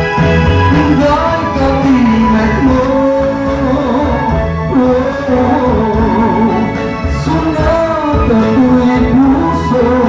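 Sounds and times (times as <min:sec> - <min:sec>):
song with singing voice: 0:00.0 - 0:10.0.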